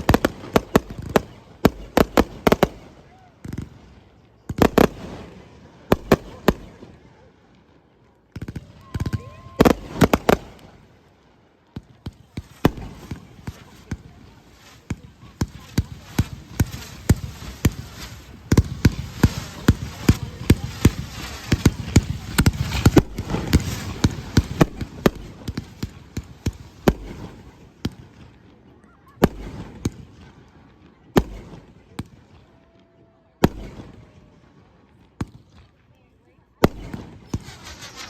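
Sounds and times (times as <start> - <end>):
fireworks bangs and crackling: 0.0 - 35.9, 36.5 - 38.0.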